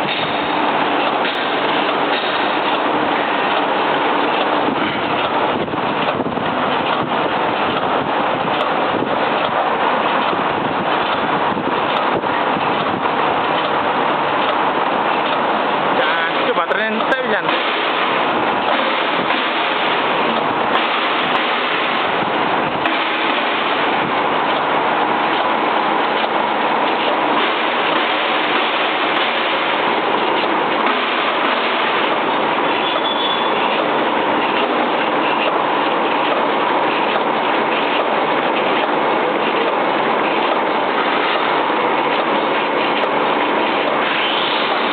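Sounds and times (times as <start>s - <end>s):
packaging machine running: 0.0s - 44.9s.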